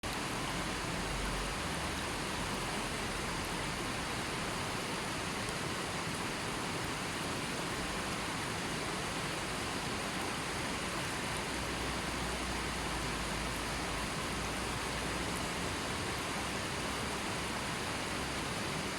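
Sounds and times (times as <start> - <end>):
river water flowing: 0.0 - 18.9.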